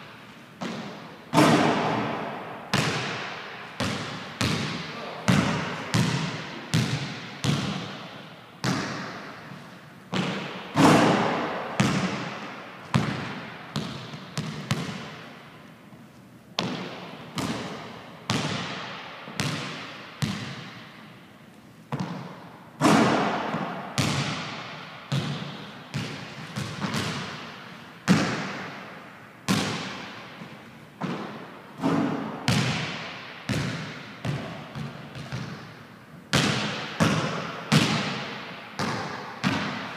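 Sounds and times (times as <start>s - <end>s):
basketball bouncing on wood floor: 0.6s - 9.4s, 10.1s - 15.4s, 16.6s - 20.9s, 21.9s - 28.8s, 29.5s - 39.9s.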